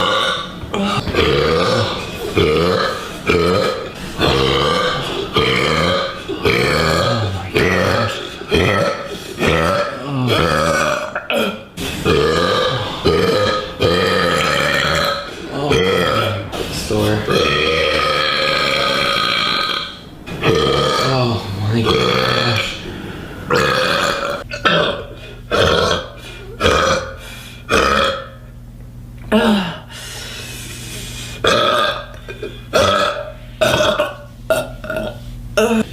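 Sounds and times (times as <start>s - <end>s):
woman burping loudly: 0.0s - 16.5s, 17.3s - 21.2s, 21.8s - 22.8s, 23.5s - 28.4s, 31.4s - 35.9s.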